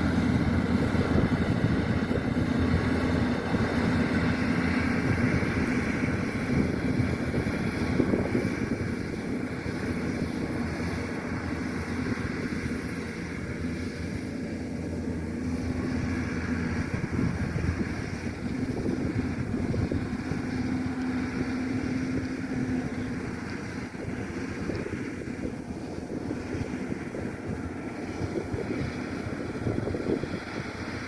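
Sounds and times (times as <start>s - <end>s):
combine harvester engine rumbling: 0.0s - 31.0s.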